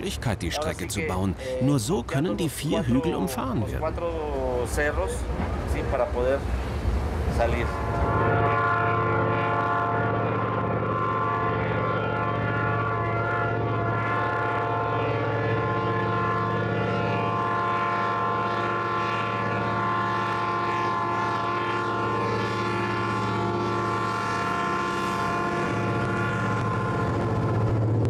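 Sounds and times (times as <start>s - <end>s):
diesel locomotive engine drone: 0.0s - 28.0s.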